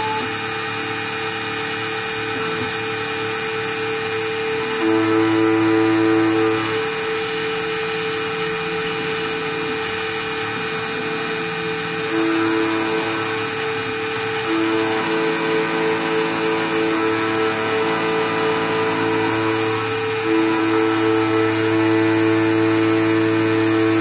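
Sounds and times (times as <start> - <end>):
high whine: 0.0 - 24.0
key-cutting machine milling: 0.0 - 24.0.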